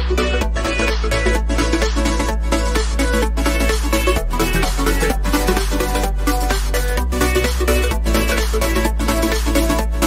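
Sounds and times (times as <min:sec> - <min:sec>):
electronic music with bass line: 0:00.0 - 0:10.0.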